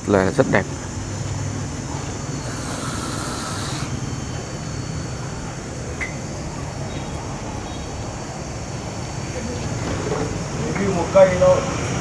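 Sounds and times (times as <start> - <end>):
constant high hiss: 0.0 - 12.0.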